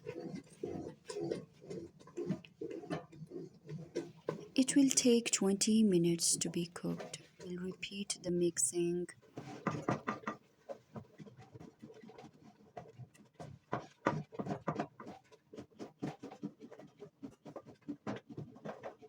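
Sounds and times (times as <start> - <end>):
rolling pin scraping dough in pot: 0.0 - 8.5, 9.4 - 19.0.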